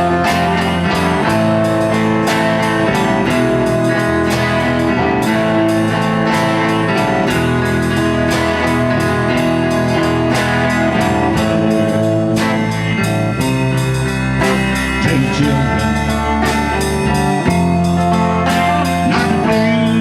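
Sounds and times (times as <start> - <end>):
bass guitar: 0.0 - 20.0
bluesy rock guitar: 0.0 - 20.0.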